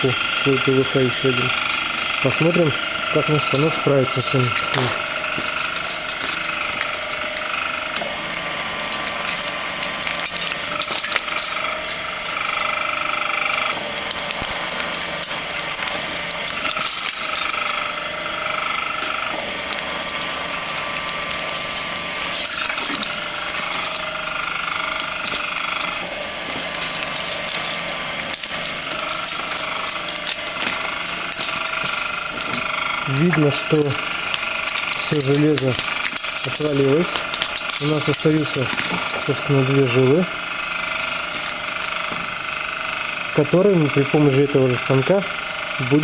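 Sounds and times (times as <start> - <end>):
rattling and clinking of cable: 0.0 - 42.4
cable-stripping machine motor whine: 0.0 - 44.2.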